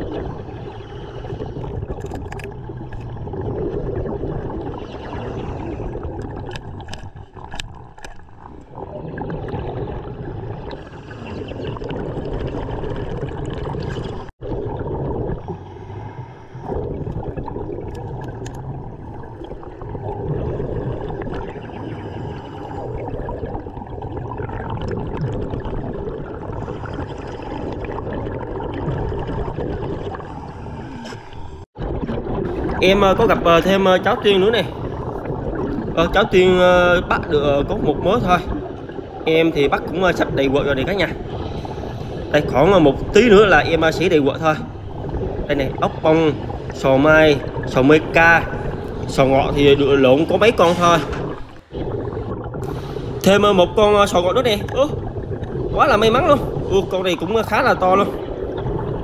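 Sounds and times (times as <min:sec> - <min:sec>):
underwater breathing bubbles: 0:00.0 - 0:59.0.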